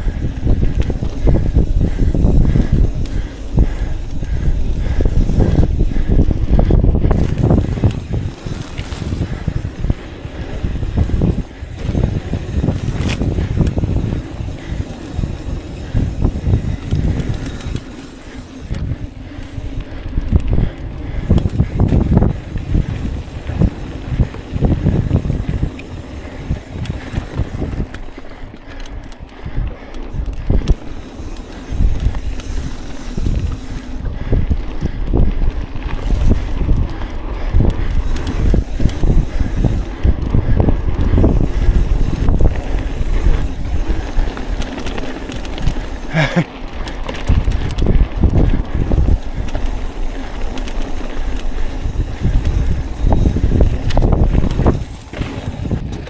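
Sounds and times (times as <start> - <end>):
bike clattering and rattling: 0.0 - 56.0
wind buffeting microphone: 0.0 - 56.0.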